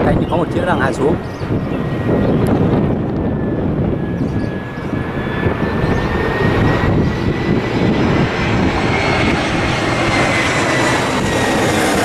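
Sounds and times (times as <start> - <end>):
jet engines roaring with whine: 0.0 - 12.0.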